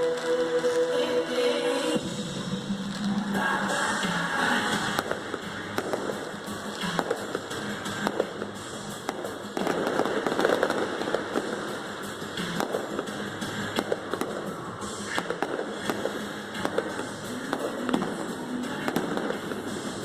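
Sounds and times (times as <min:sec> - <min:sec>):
music over sound system: 0:00.0 - 0:20.0
fireworks bangs: 0:02.0 - 0:20.0.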